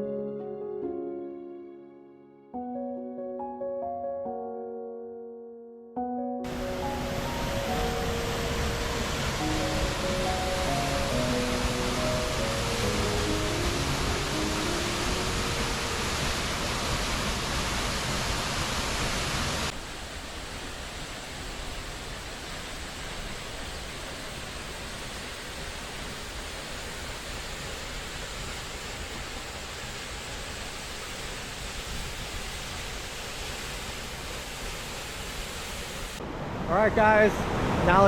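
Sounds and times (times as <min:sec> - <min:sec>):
waterfall rushing: 0:06.5 - 0:38.0.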